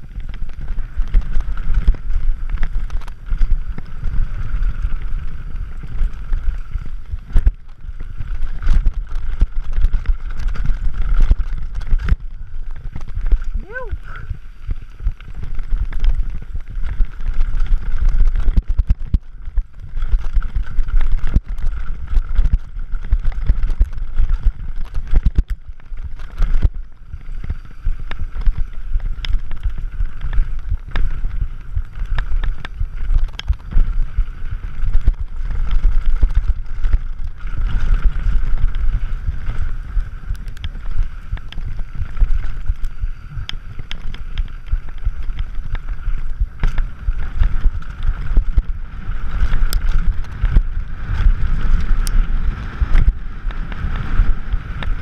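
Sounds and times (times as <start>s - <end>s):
bike rattling over bumps: 0.0s - 55.0s
tyre and wind rumble: 0.0s - 55.0s.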